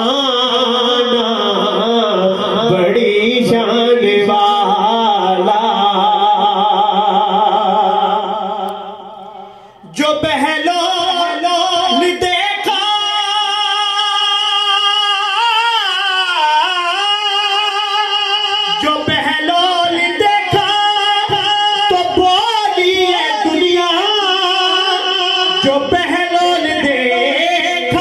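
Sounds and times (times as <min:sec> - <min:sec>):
man singing devotional hymn: 0:00.0 - 0:28.0.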